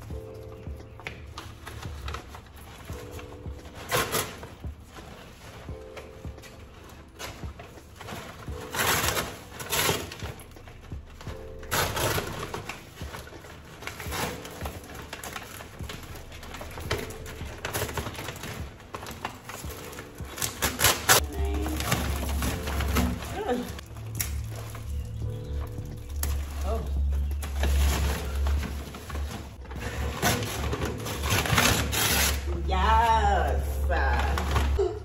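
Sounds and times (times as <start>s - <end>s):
paper wrapping rustling and tearing: 0.0s - 35.0s.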